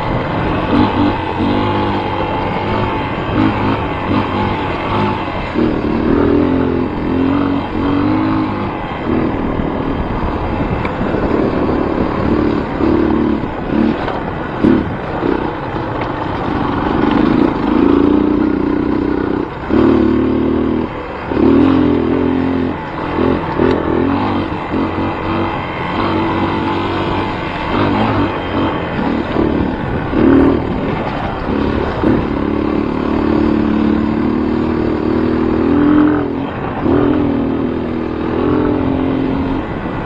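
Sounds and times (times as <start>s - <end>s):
vehicle engine revving: 0.0s - 40.0s.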